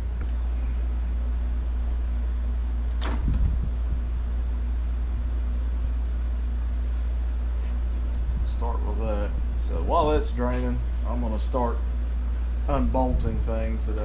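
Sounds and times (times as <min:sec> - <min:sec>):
low workshop hum: 0:00.0 - 0:14.0.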